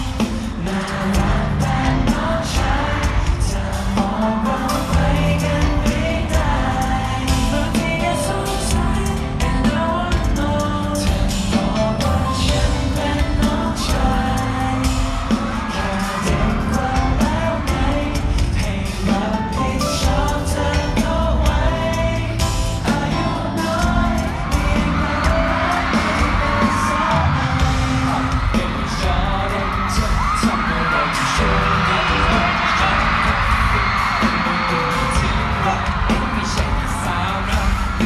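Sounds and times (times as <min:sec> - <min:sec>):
boy group singing: 0:00.0 - 0:38.0
fans screaming and whooping: 0:00.0 - 0:38.0
live pop song over sound system: 0:00.0 - 0:38.0.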